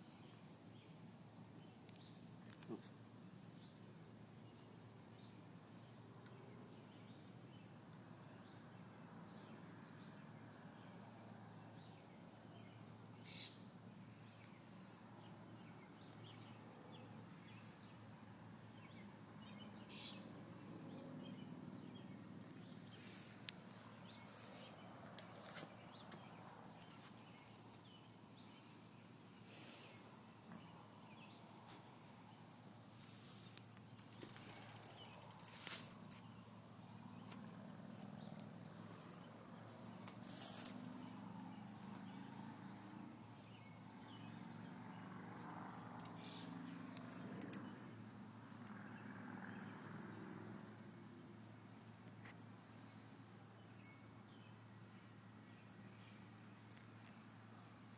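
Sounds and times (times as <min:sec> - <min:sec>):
outdoor background hiss: 0:00.0 - 0:57.9.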